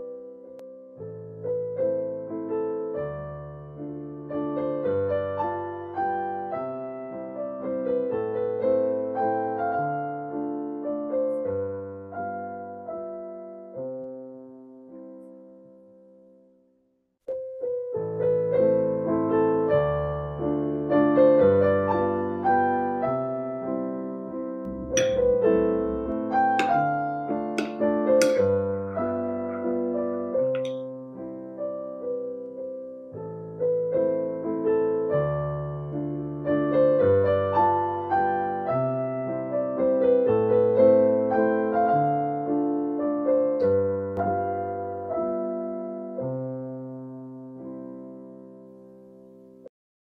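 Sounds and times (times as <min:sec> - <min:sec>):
piano music: 0:00.0 - 0:16.3, 0:17.3 - 0:49.7.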